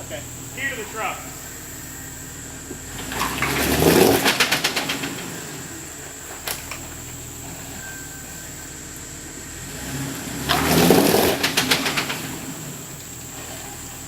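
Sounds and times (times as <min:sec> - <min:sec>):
rattling scraping rapid ticks: 0:00.0 - 0:09.1, 0:10.0 - 0:14.0
car engine running: 0:00.0 - 0:14.0.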